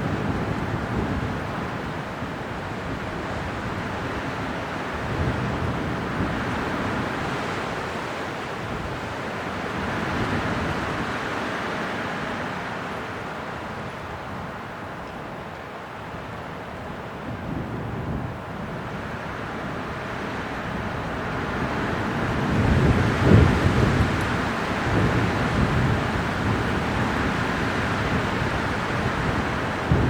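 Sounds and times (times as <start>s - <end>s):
strong wind blowing: 0.0s - 14.7s, 16.7s - 30.0s.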